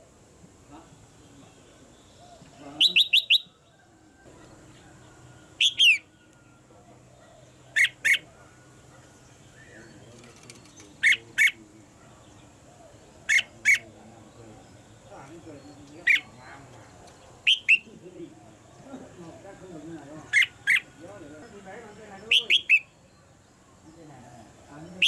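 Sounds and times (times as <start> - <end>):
bulbul calling: 0.7 - 25.0.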